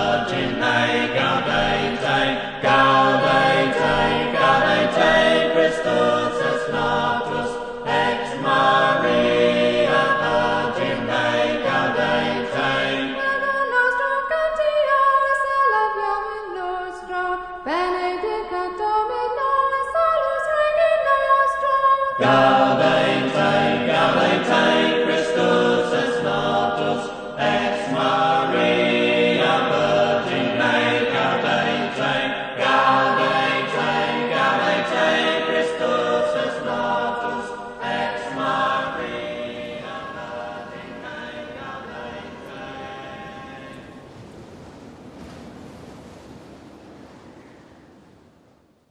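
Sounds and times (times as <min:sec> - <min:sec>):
choir singing: 0:00.0 - 0:17.4, 0:19.0 - 0:44.1
single high voice singing: 0:00.0 - 0:43.9.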